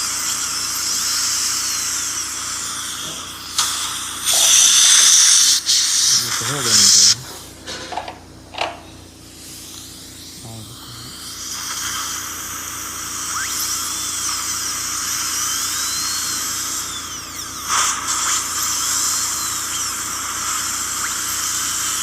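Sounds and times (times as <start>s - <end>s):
dental drill whining: 0.0s - 7.2s, 7.8s - 22.0s.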